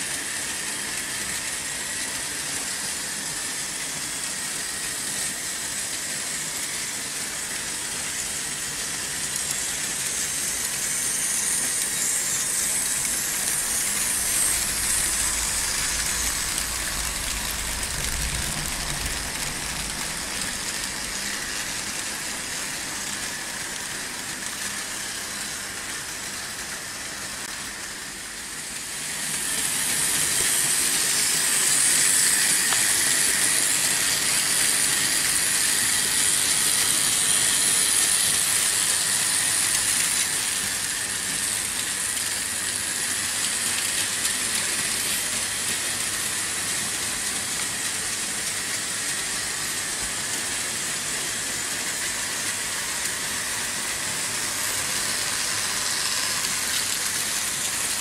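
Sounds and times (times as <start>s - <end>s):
model trains running on track: 0.0s - 58.0s.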